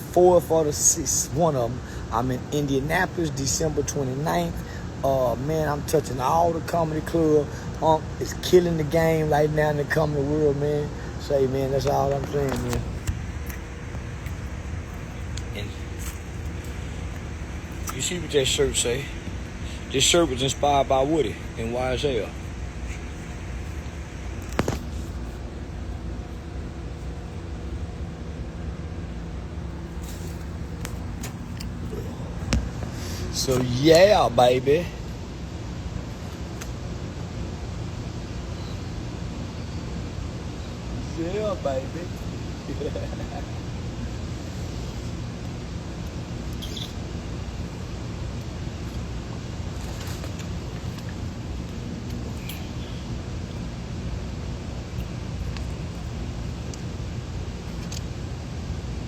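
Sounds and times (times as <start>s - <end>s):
low mechanical hum: 0.0s - 59.0s
low rumbling background noise: 0.0s - 59.0s.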